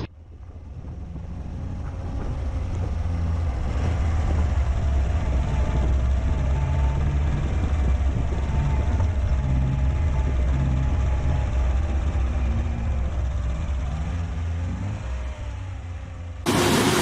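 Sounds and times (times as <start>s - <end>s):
heavy vehicle engine rumbling: 0.0s - 17.0s.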